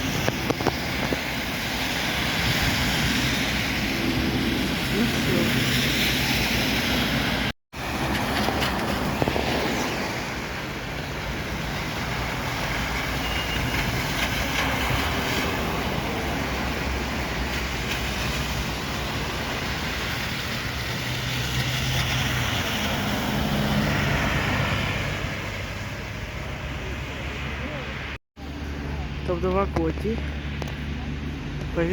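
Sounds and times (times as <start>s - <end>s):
vehicles running past: 0.0s - 31.9s.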